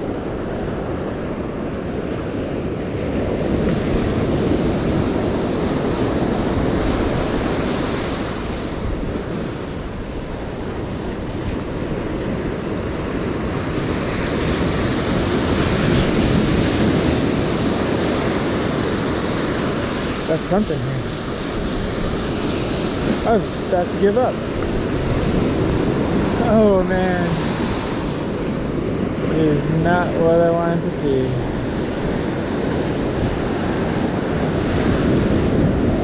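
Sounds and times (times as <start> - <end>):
ocean surf breaking: 0.0 - 36.0
wind buffeting microphone: 0.0 - 36.0.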